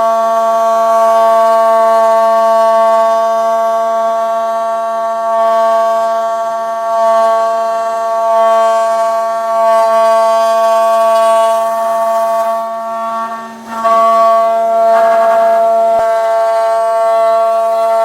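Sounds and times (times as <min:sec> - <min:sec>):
router spindle high-pitched whine: 0:00.1 - 0:18.0.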